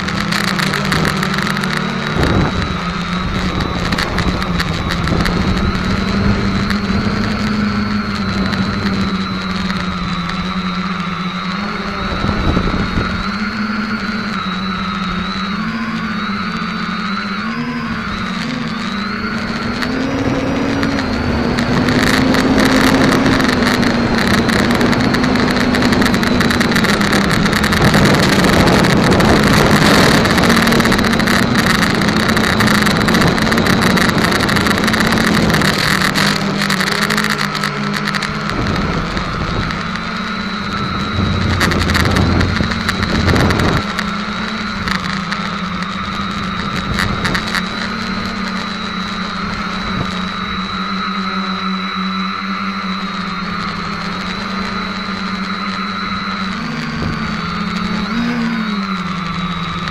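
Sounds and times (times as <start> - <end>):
quadcopter motors humming: 0.0 - 59.9.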